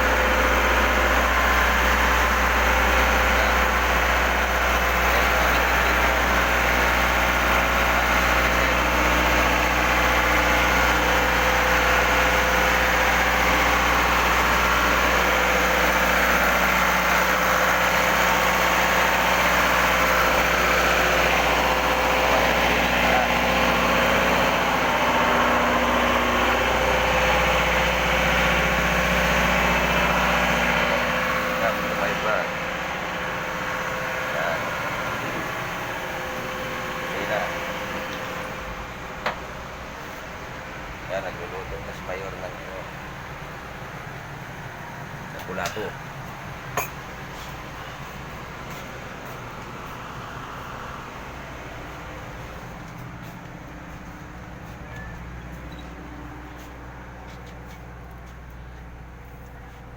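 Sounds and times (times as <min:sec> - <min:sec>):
engine-room machinery drone: 0:00.0 - 0:59.9.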